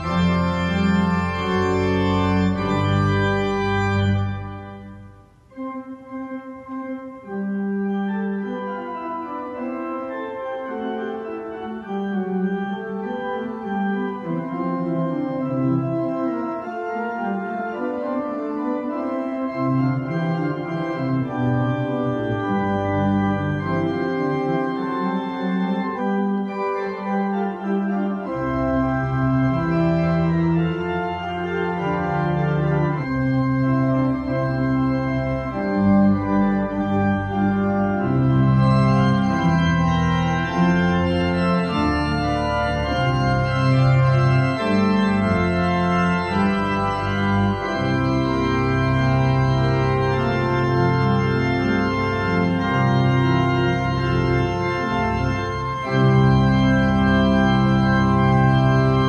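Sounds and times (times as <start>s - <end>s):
church organ playing: 0.0s - 59.0s.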